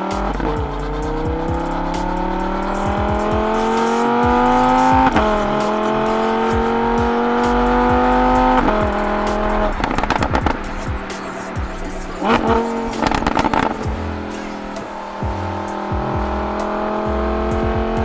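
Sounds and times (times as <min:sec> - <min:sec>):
music with regular beat: 0:00.0 - 0:18.0
sports car engine accelerating: 0:00.0 - 0:18.0.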